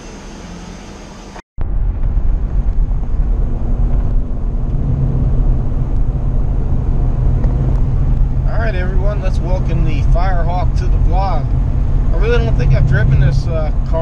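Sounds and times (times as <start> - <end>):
car engine and exhaust drone: 0.0 - 14.0
quiet vehicle noise: 0.0 - 14.0.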